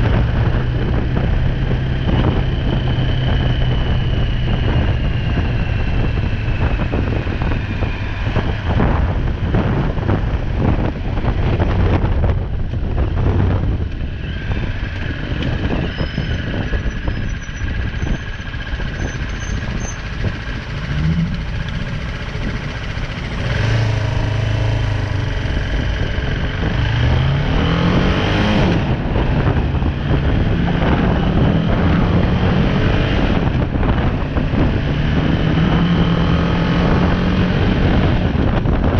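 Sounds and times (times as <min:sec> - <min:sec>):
motorcycle engine accelerating: 0:00.0 - 0:38.9
wind rushing over microphone: 0:00.0 - 0:38.9.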